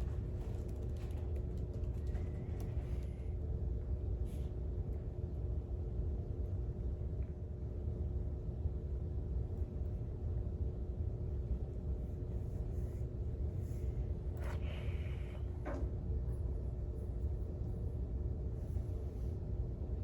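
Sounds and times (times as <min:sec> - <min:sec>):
faint steady hum: 0:00.0 - 0:20.0
low room rumble: 0:00.0 - 0:20.0.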